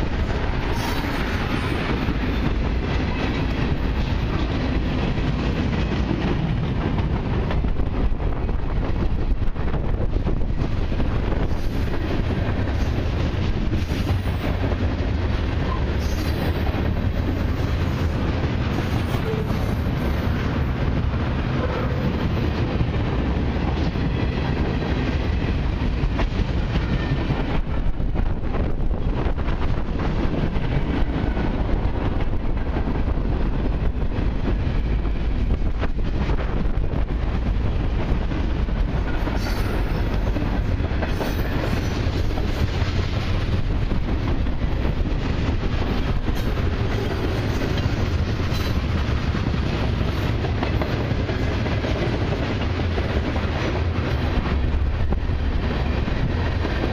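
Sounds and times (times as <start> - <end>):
freight train wheels on rails: 0.0 - 56.9.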